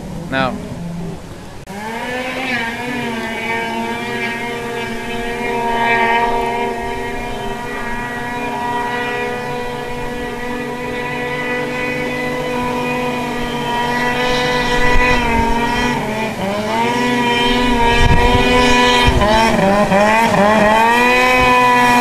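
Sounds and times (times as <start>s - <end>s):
snowmobile engine at high revs: 0.0s - 22.0s.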